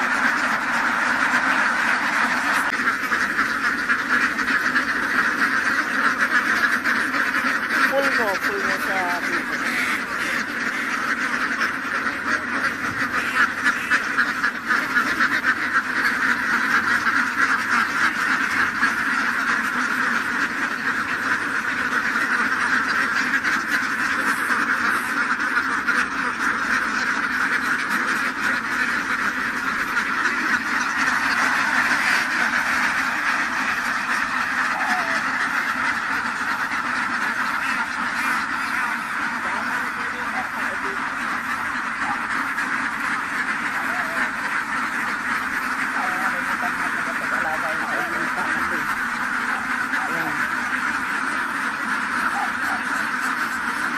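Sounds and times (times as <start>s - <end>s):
flock of ducks quacking: 0.0s - 53.9s.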